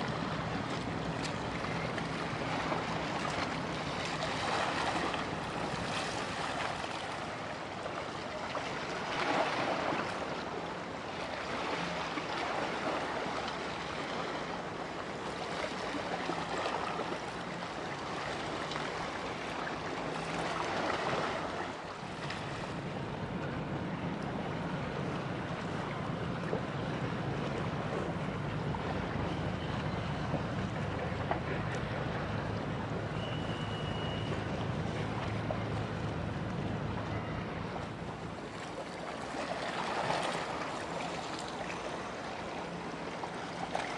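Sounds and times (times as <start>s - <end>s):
low boat engine drone: 0.0s - 43.9s
rushing water: 0.0s - 43.9s.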